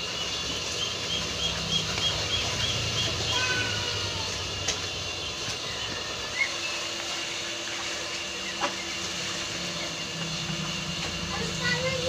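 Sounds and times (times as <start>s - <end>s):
pot boiling with steady hiss: 0.0s - 12.0s.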